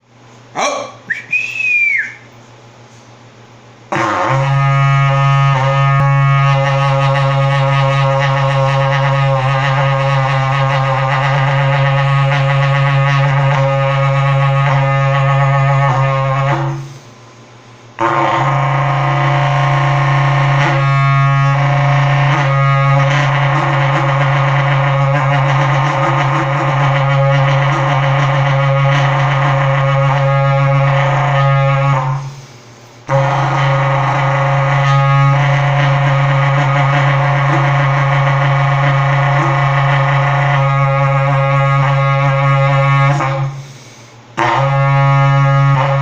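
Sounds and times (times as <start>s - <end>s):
cattle horn droning note: 3.9s - 17.0s, 18.0s - 32.4s, 33.1s - 46.0s.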